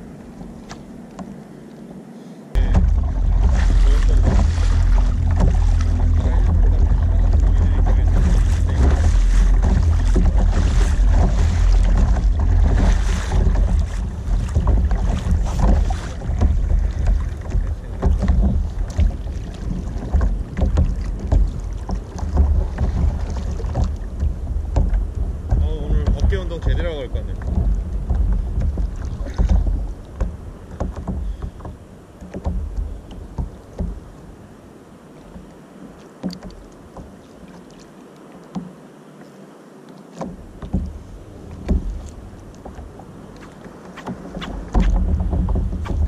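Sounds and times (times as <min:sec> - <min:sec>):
wind buffeting microphone: 0:02.5 - 0:34.6, 0:40.3 - 0:46.0
water splashing against plastic hull: 0:02.6 - 0:46.0.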